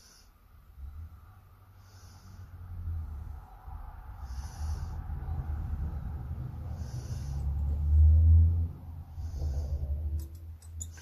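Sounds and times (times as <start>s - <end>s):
person breathing heavily through nose: 0.0s - 10.2s.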